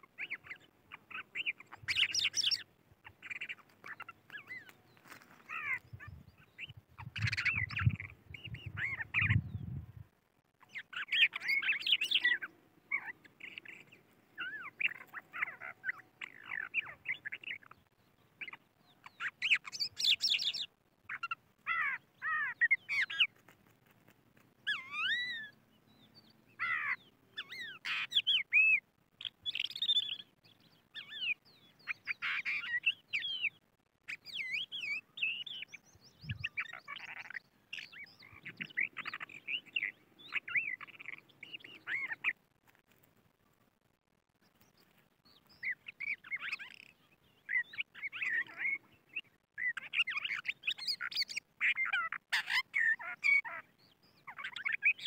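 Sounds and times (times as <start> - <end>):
lark singing: 0.0 - 9.8, 10.6 - 23.4, 24.6 - 42.4, 44.4 - 55.0.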